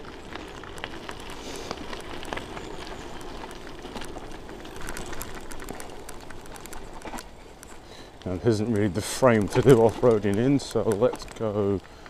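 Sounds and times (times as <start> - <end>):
bike clicks and rattles: 0.0 - 12.0
tyres rumbling on dirt: 0.0 - 12.0.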